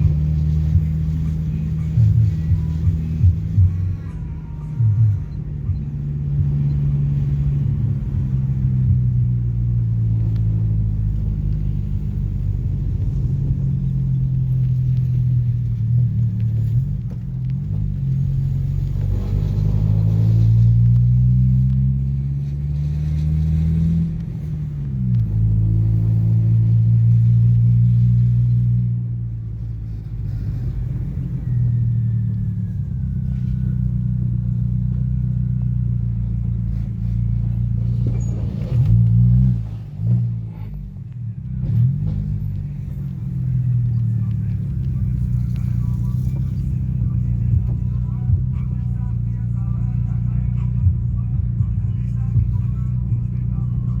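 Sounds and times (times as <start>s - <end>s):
pickup truck engine rumbling: 0.0s - 54.0s.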